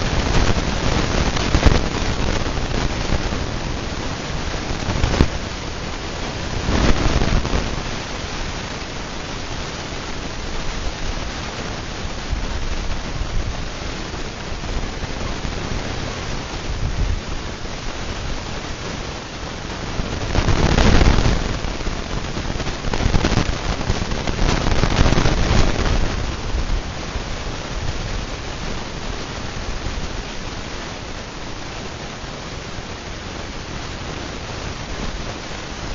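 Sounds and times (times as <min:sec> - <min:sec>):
ceiling fan running: 0:00.0 - 0:35.9.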